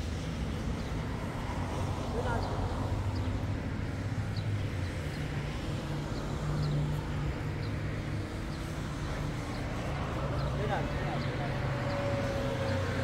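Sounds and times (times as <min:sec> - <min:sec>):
low hum of traffic: 0:00.0 - 0:13.0.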